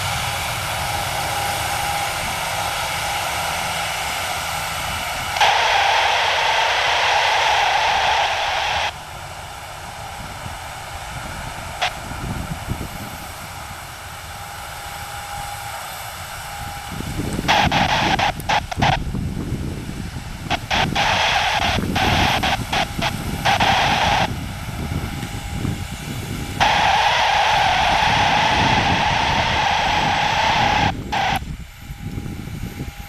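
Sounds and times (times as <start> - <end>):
jet engine low rumble: 0.0 - 33.0.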